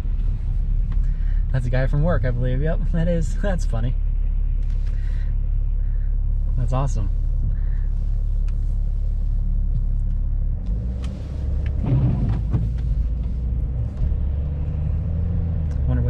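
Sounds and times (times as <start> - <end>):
car engine and tyre drone: 0.0 - 16.0.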